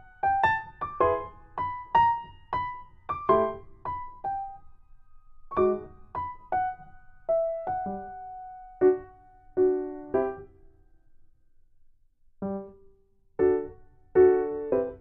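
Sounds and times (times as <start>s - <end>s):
slow piano melody: 0.0s - 10.8s, 12.4s - 15.0s.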